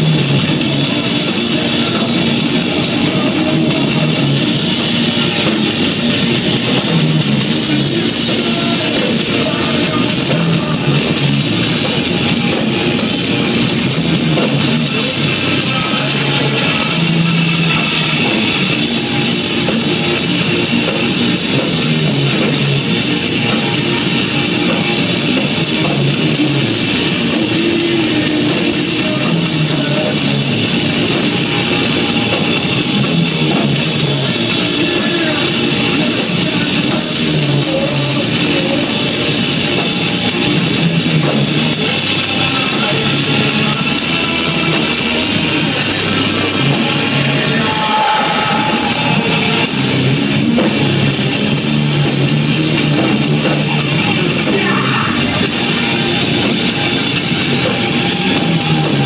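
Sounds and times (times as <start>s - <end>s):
bass guitar: 0.0s - 59.0s
distorted electric guitars: 0.0s - 59.0s
drum kit: 0.0s - 59.0s.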